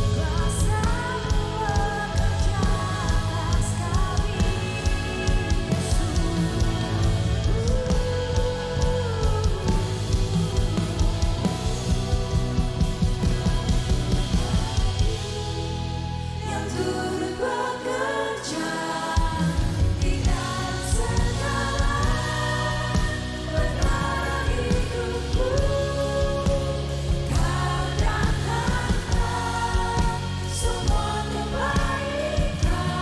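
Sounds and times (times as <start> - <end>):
band with drum beat: 0.0 - 16.4, 19.2 - 33.0
people singing: 0.0 - 33.0.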